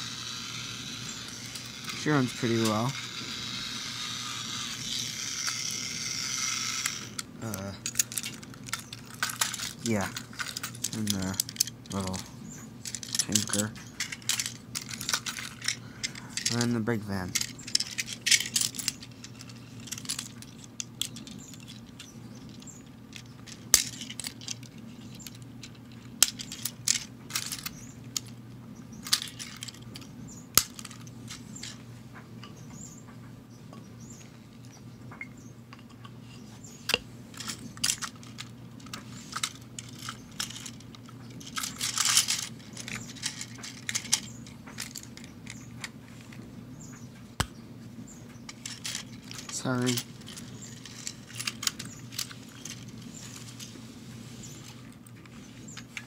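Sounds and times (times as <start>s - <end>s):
toy train cars clicking: 0.0s - 28.4s, 29.0s - 30.0s, 30.6s - 31.8s, 36.9s - 46.4s, 48.5s - 53.7s
steady low hum: 0.0s - 56.0s.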